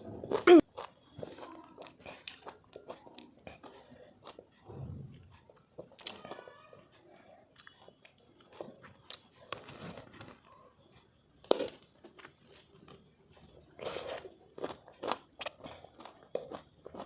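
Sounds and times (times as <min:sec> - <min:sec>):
biting and chewing crunches: 0:00.0 - 0:04.7, 0:07.0 - 0:17.0.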